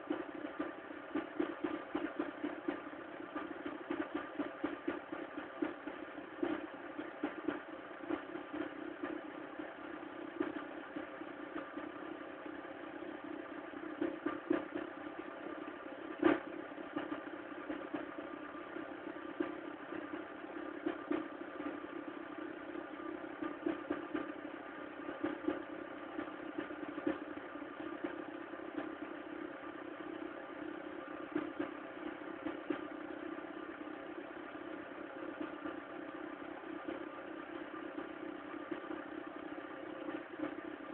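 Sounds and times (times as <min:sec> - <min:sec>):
car engine idling with knocks: 0:00.0 - 0:40.9.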